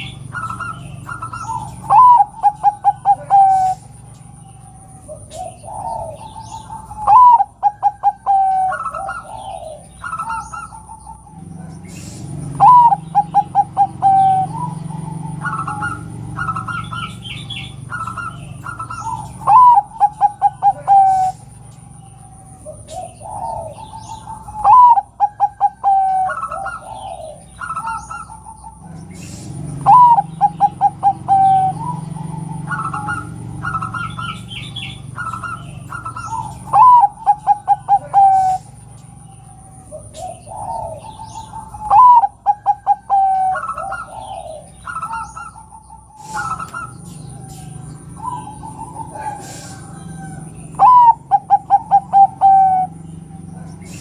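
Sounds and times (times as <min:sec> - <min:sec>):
dove cooing: 0:00.0 - 0:54.0
faint bird chirps: 0:00.0 - 0:54.0.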